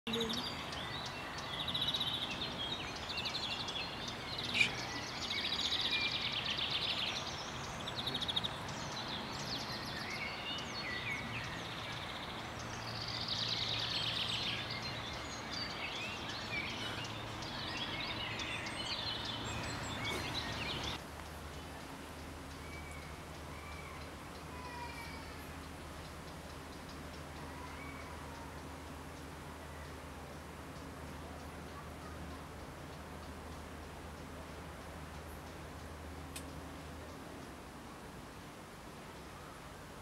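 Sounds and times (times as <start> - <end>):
outdoor background noise: 0.1 - 40.0
small birds singing and calling: 0.1 - 40.0.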